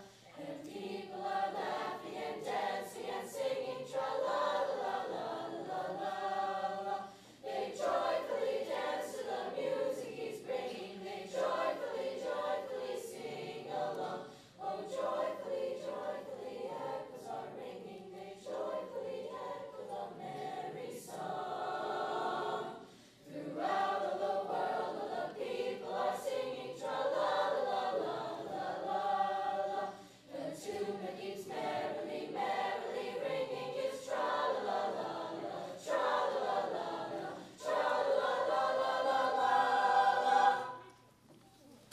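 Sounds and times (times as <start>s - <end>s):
mixed choir singing: 0.0s - 41.1s.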